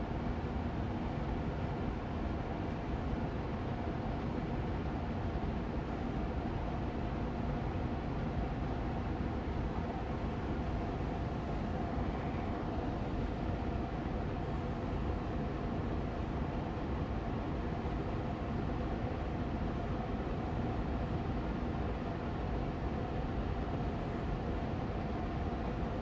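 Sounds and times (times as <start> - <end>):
air purifier fan running: 0.0 - 26.0.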